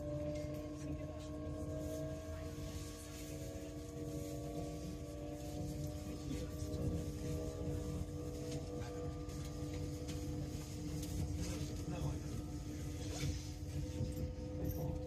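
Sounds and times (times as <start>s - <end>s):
train drive equipment hum: 0.0s - 15.0s
wheels rumbling on track: 0.0s - 15.0s.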